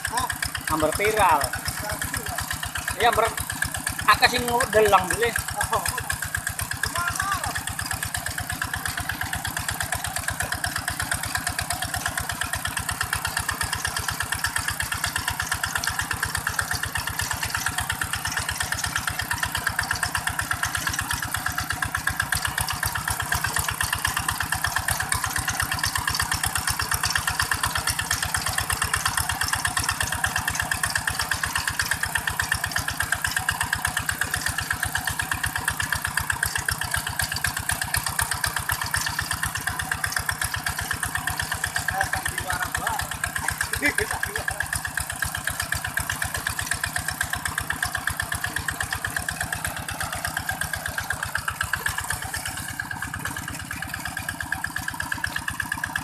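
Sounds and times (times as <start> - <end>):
diesel engine chugging: 0.0 - 56.0
wheels pulling through water: 0.0 - 56.0.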